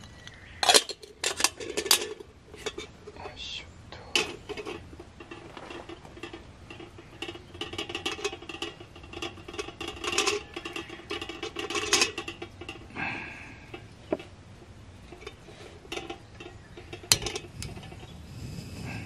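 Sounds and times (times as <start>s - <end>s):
metal cookware clinking and rattling: 0.6s - 3.2s, 4.1s - 14.3s, 14.9s - 18.1s.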